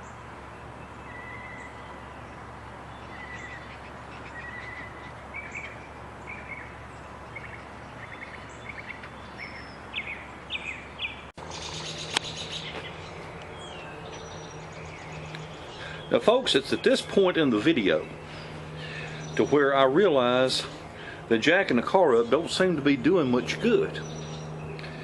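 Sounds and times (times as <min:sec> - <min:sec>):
low steady hum: 0:00.0 - 0:25.0
small birds chirping: 0:00.0 - 0:25.0.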